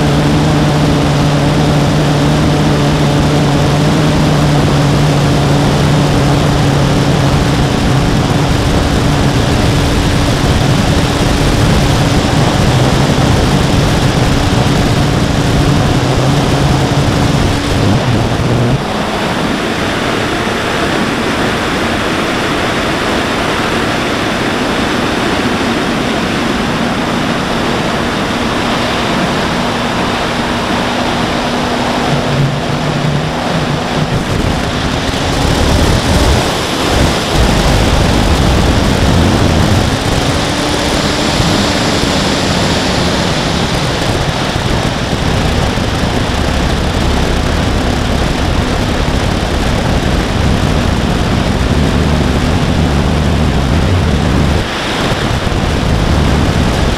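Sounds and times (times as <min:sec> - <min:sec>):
motor and propeller hum: 0:00.0 - 0:56.9
wind rushing over camera: 0:00.0 - 0:56.9.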